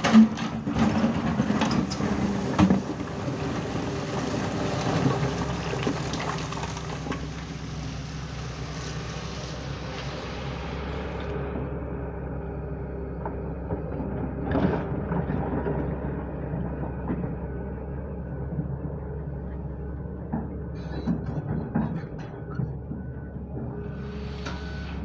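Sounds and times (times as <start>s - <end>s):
digger diesel engine running: 0.0s - 25.0s.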